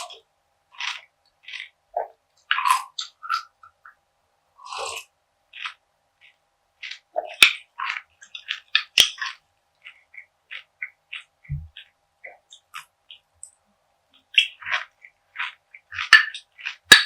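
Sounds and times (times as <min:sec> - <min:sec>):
crunchy chewing: 0:00.0 - 0:04.0, 0:04.6 - 0:13.6, 0:14.2 - 0:17.0.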